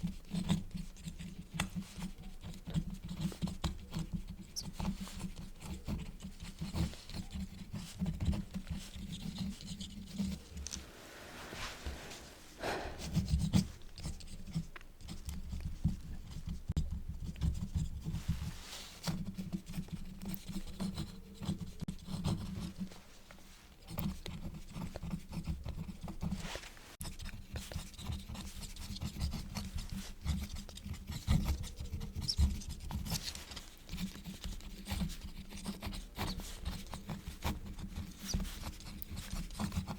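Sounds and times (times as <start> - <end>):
quill nib scratching on paper: 0.0 - 10.8, 12.6 - 23.0, 23.8 - 39.9.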